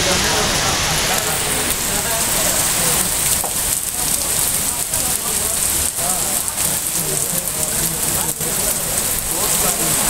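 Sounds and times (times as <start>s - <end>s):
heavy rain on the ground: 0.0s - 10.0s.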